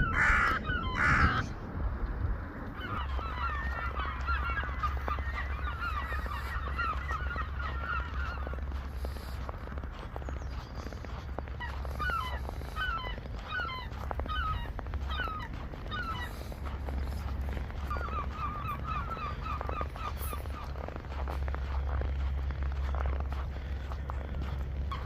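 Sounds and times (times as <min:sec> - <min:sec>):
steady low rumble: 0:00.0 - 0:25.0
squeaky animal calls: 0:02.8 - 0:09.4, 0:11.0 - 0:25.0.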